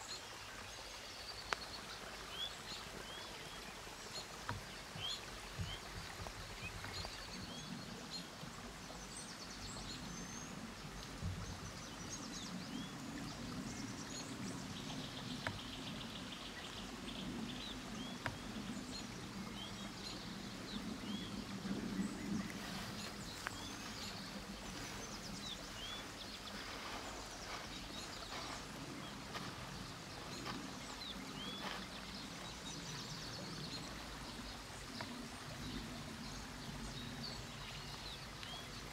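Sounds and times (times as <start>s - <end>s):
river rushing: 0.0s - 38.9s
small birds chirping: 0.0s - 38.9s.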